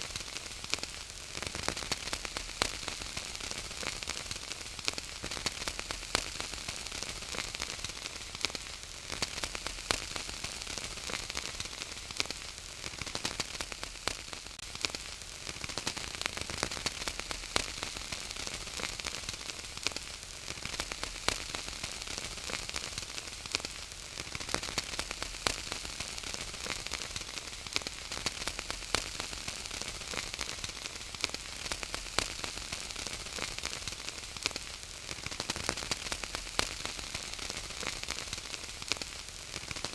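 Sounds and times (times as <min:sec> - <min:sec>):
steady fire hiss: 0:00.0 - 0:39.9
wood fire crackling and popping: 0:00.0 - 0:39.9.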